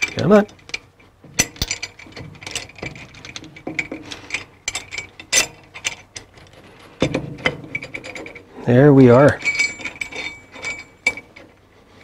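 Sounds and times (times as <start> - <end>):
metal bolts clicking and scraping: 0.0 - 12.0.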